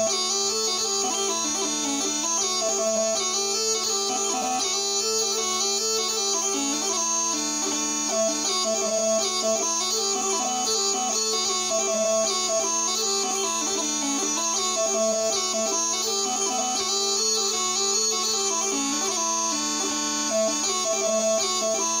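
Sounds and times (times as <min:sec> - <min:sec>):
small bagpipe playing hornpipe: 0:00.0 - 0:22.0.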